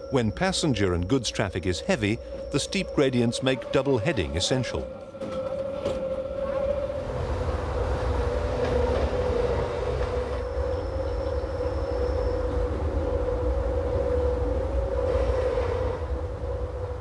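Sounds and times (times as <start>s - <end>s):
electric train rumbling: 0.0s - 17.0s
train motor whine: 1.7s - 17.0s.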